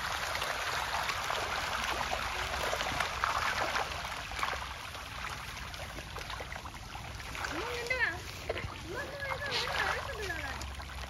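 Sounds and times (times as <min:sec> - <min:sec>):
fish splashing: 0:00.0 - 0:11.0.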